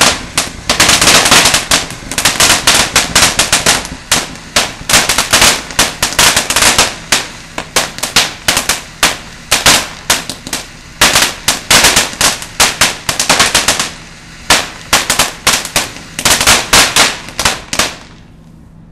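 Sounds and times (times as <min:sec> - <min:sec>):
firework cracks and pops: 0:00.0 - 0:18.4
firework sparks spraying: 0:00.0 - 0:18.4.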